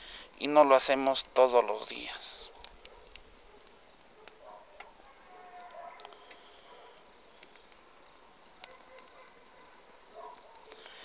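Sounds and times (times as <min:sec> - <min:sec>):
bonfire crackling: 0:00.0 - 0:11.0.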